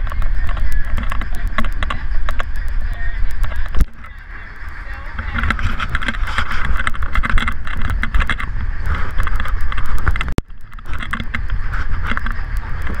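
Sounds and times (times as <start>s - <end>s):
small knocks and clicks: 0.0s - 4.2s, 5.2s - 13.0s
low boat engine drone: 0.0s - 13.0s.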